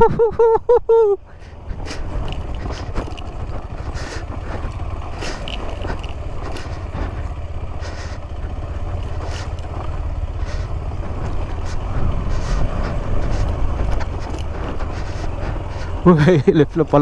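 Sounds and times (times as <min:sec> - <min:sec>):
motorcycle engine running: 0:00.0 - 0:17.0
knocks and clatter over rocks: 0:01.4 - 0:17.0.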